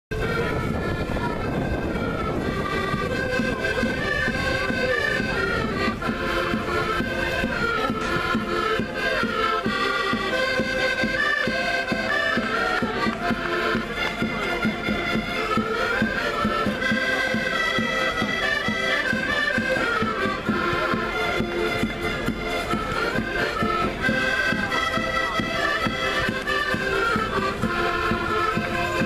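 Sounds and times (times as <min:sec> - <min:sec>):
folk band with accordions: 0:00.1 - 0:29.0.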